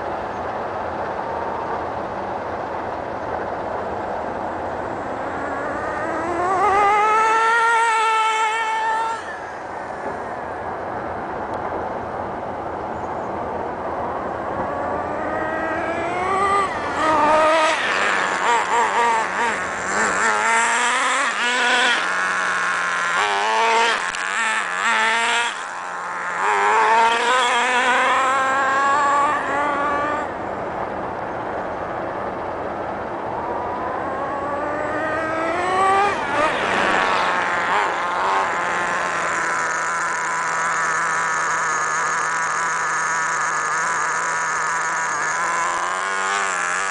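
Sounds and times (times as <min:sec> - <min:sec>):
rc truck engine revving high: 0:04.2 - 0:11.6, 0:13.4 - 0:30.8, 0:31.9 - 0:46.9.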